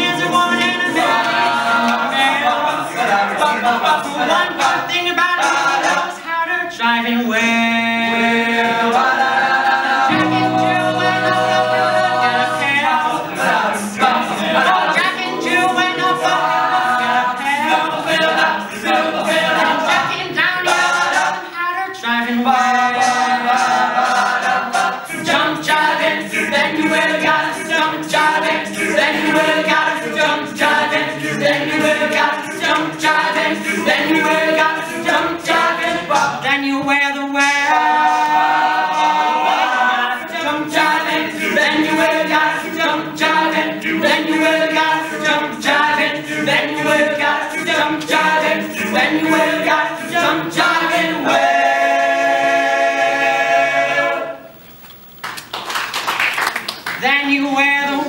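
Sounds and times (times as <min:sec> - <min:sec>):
backing voices holding chords: 0:07.1 - 0:54.5.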